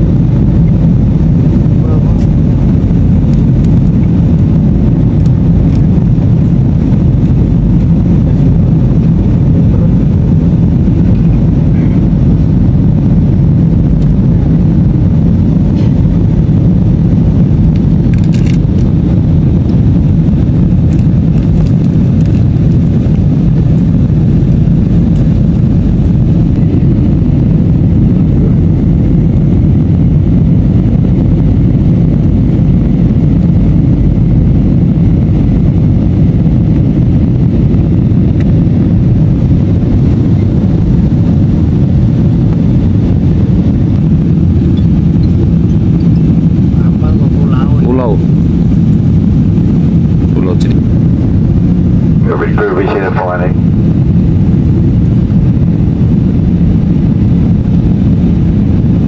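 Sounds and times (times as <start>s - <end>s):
jet airliner cabin rumble: 0.0s - 59.0s.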